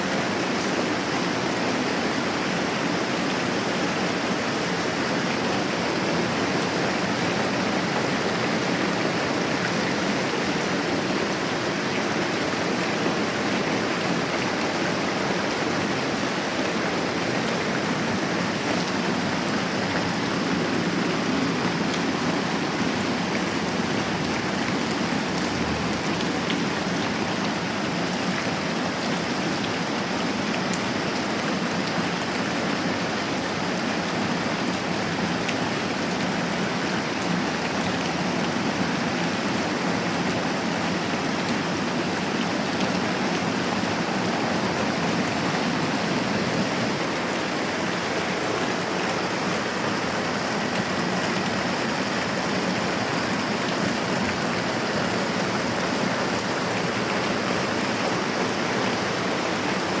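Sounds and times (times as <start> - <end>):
moderate rain falling: 0.0 - 60.0.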